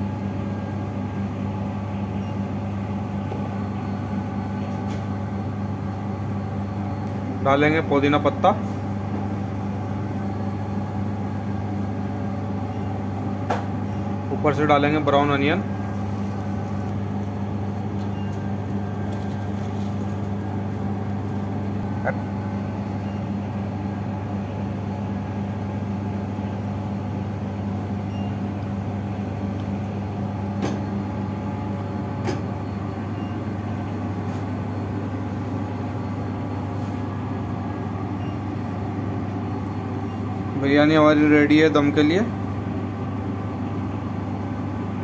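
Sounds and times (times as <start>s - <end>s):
kitchen equipment hum: 0.0s - 45.0s.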